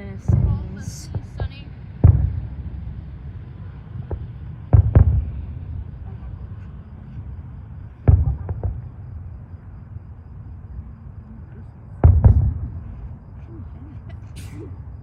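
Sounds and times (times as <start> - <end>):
small fireworks cracks: 0.0 - 10.2, 11.4 - 14.9
distant fireworks booms: 0.0 - 15.0
low steady rumble: 0.0 - 15.0.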